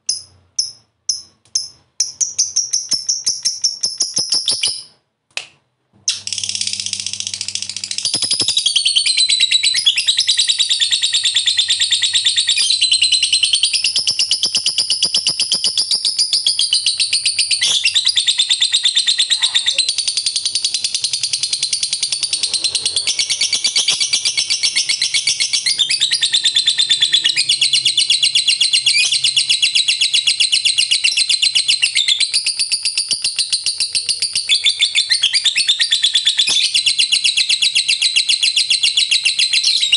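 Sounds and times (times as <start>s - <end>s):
lovebird chattering song: 0.1s - 4.9s, 6.1s - 39.9s.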